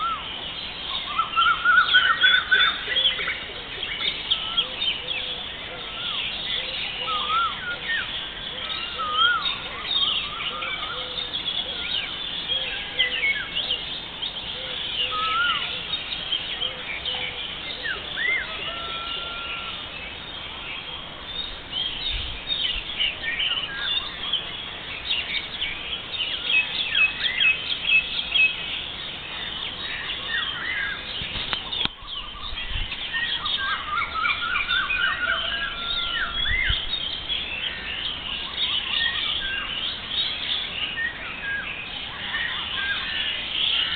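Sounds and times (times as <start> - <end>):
songbirds singing and chirping: 0.0 - 43.9.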